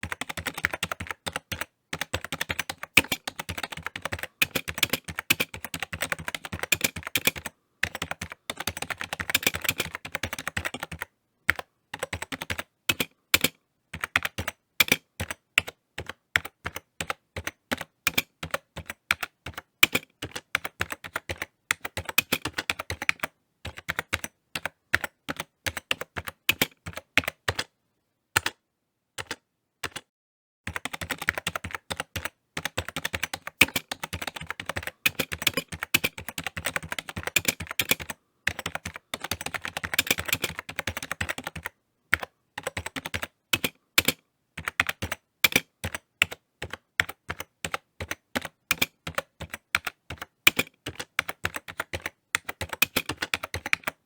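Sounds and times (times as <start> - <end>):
typing on computer keyboard: 0.0 - 27.7, 28.4 - 28.6, 29.2 - 30.1, 30.7 - 54.0.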